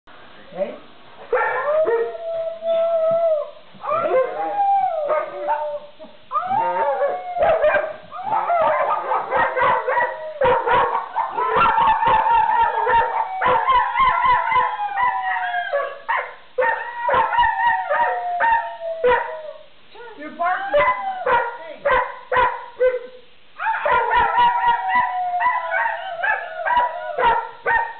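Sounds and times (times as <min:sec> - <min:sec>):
dogs barking and yipping: 0:01.3 - 0:02.0, 0:05.1 - 0:19.6, 0:20.5 - 0:27.9
dogs howling: 0:01.3 - 0:27.9.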